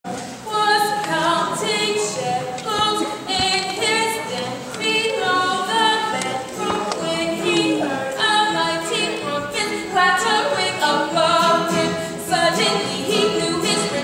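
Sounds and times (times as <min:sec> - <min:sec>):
women singing together: 0:00.3 - 0:14.0.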